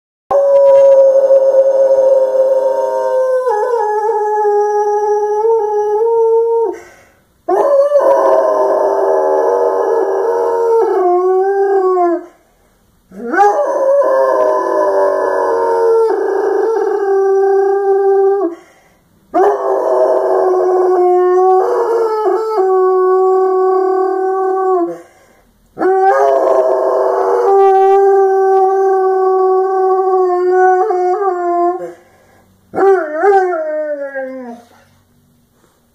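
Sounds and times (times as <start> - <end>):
large dog howling: 0.3 - 6.8, 7.5 - 12.3, 13.2 - 18.6, 19.4 - 25.0, 25.8 - 31.9, 32.8 - 34.7.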